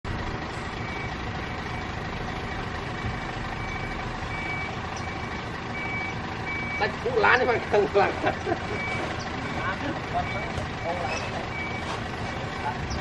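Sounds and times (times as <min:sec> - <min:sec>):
truck engine running: 0:00.0 - 0:13.0
reverse alarm beeping: 0:00.7 - 0:13.0.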